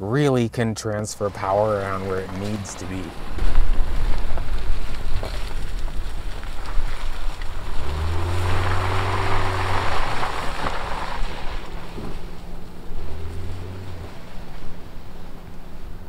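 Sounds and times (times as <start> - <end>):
tyres over dirt and leaves: 0.2 - 16.0
truck engine pulling away: 0.8 - 16.0.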